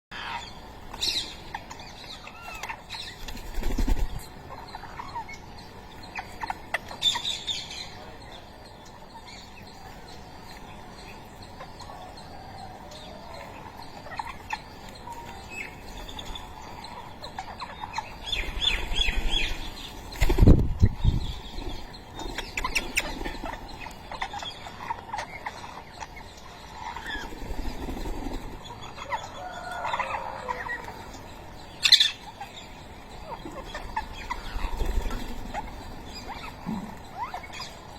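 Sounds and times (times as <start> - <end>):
parakeets chirping: 0.1 - 37.9.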